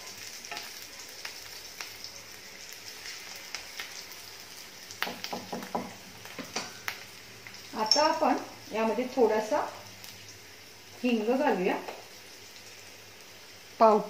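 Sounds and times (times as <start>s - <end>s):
chillies sizzling in hot oil: 0.0s - 14.0s.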